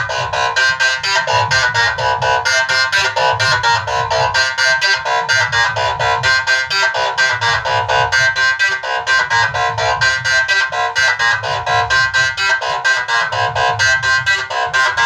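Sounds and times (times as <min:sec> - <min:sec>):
fast steady beat: 0:00.0 - 0:15.0.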